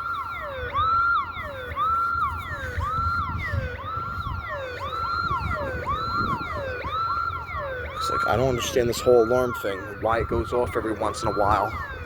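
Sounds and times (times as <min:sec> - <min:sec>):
electronic alarm siren wailing: 0:00.0 - 0:12.0.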